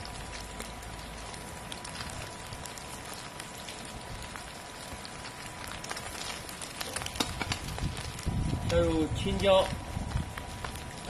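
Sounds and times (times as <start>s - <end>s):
eggs frying in hot oil: 0.0s - 11.0s
rain pattering: 0.0s - 11.0s.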